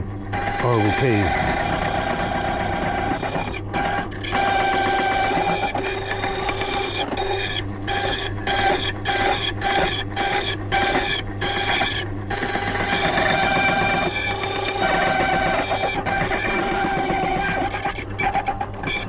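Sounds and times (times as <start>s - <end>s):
key-cutting machine whine: 0.2s - 19.0s.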